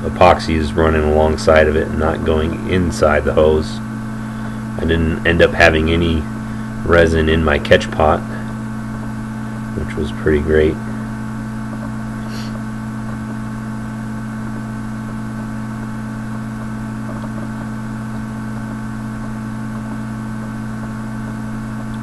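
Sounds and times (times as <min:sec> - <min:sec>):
low hum with higher tones: 0:00.0 - 0:22.0.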